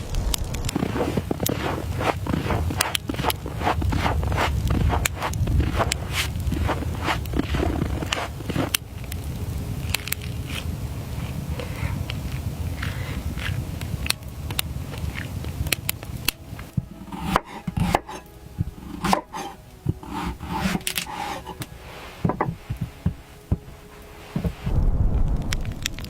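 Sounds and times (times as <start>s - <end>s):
low rumble: 0.0s - 17.2s, 21.3s - 26.0s.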